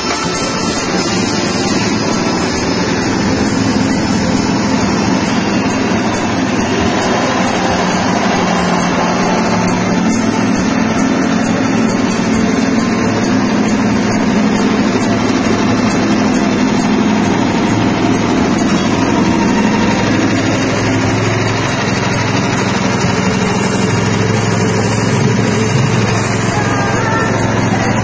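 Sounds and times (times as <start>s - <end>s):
peeling machine motor humming: 0.0s - 28.0s.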